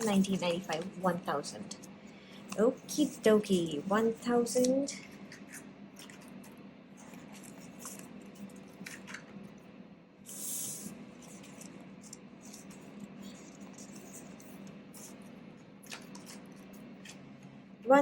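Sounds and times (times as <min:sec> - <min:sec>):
air fryer humming: 0:00.0 - 0:18.0.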